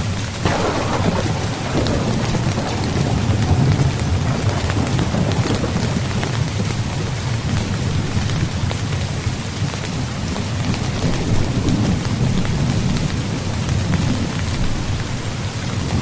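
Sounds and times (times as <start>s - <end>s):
rain falling on a tent: 0.0s - 16.0s.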